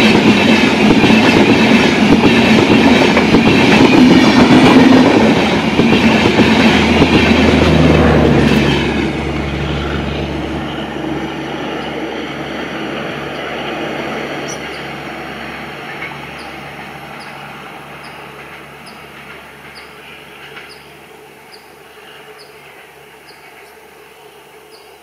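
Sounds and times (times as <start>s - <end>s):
train rumbling along track: 0.0s - 25.0s.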